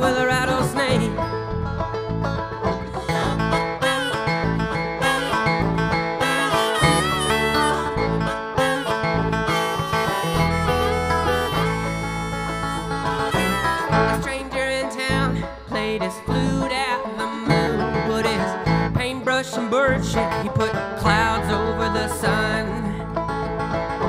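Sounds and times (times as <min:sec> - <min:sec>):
folk band plucked strings: 0:00.0 - 0:24.0.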